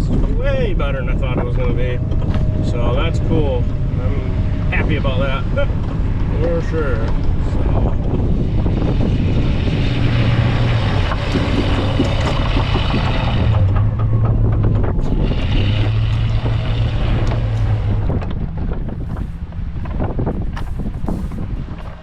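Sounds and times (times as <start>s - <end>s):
pickup truck engine under load: 0.0s - 22.0s
snow plow scraping snow: 0.2s - 22.0s.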